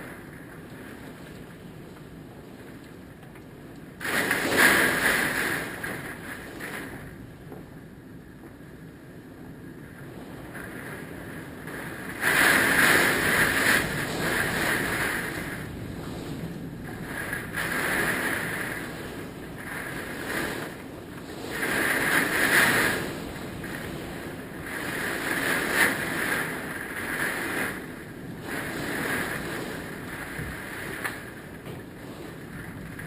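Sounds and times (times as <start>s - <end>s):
hurricane wind gusting: 0.0s - 33.0s
wind buffeting microphone: 0.0s - 33.0s.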